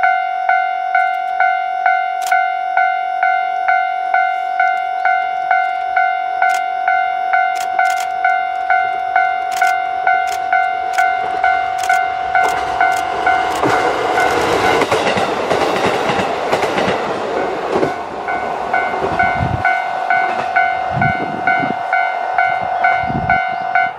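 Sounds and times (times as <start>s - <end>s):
diesel train passing: 0.0s - 23.9s.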